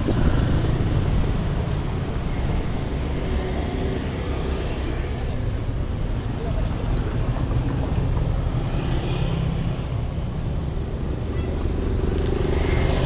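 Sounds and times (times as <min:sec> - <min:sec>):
motorbike and car engines passing: 0:00.0 - 0:13.0
street traffic rumble: 0:00.0 - 0:13.0.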